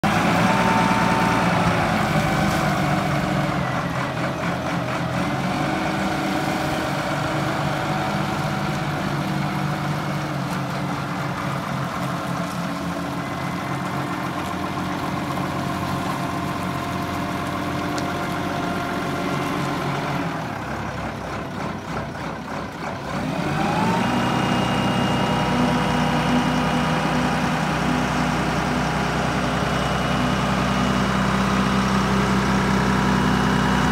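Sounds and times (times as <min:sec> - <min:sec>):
forklift diesel engine running: 0:00.0 - 0:33.9.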